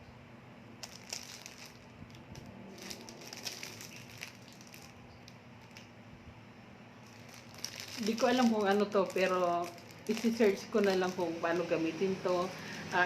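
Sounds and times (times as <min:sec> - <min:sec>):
plastic packaging crinkling: 0:00.8 - 0:06.0, 0:07.0 - 0:13.0.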